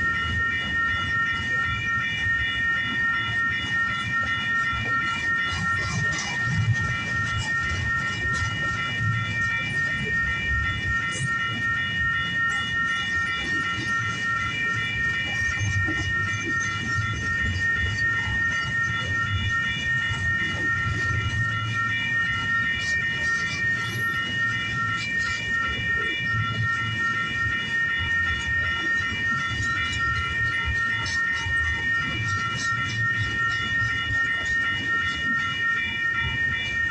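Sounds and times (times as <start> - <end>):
high-pitched ringing tone: 0.0 - 36.9.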